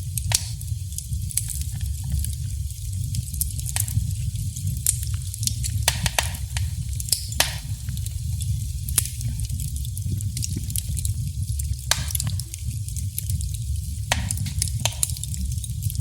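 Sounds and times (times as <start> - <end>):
fire low rumble: 0.0 - 16.0
wood fire crackling and popping: 0.0 - 16.0.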